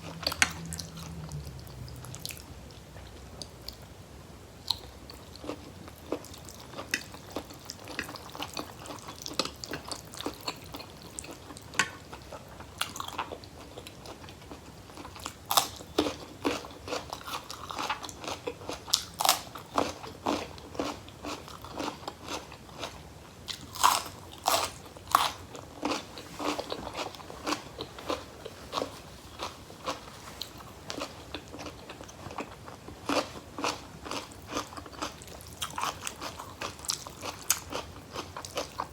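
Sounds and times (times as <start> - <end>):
person chewing crunchy vegetables: 0.0 - 3.9, 4.6 - 38.9.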